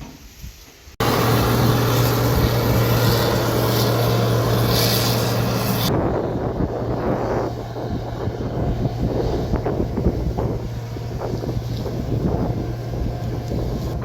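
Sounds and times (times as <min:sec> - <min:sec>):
large diesel engine running: 0:01.0 - 0:14.0
wind rushing: 0:01.0 - 0:14.0.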